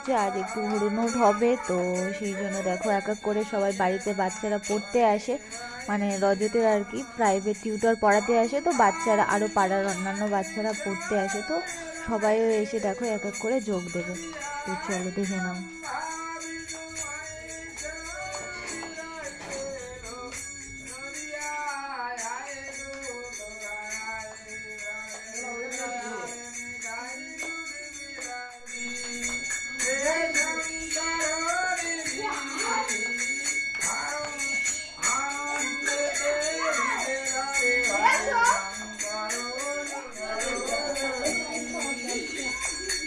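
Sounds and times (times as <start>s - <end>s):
jingling percussion: 0.0s - 43.0s
melodic devotional chanting: 0.0s - 43.0s.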